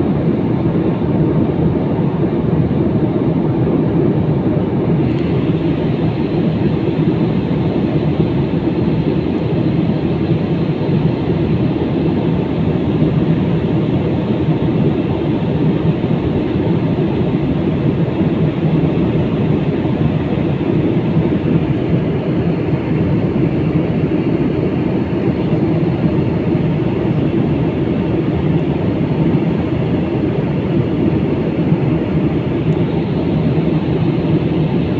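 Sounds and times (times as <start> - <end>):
jet cabin engine rumble: 0.0 - 34.9.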